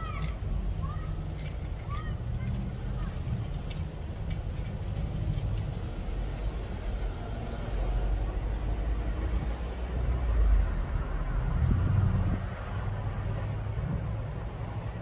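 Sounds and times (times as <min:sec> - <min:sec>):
cars passing by: 0:00.0 - 0:15.0
low traffic rumble: 0:00.0 - 0:15.0.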